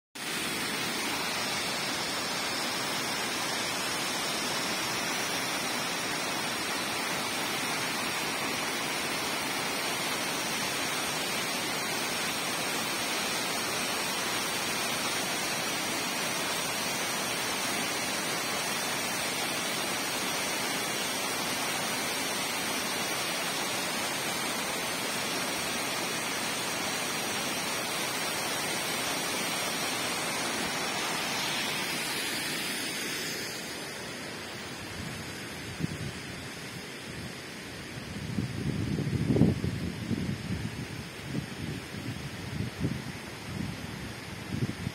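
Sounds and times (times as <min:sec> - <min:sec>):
waterfall rushing: 0:00.2 - 0:38.0.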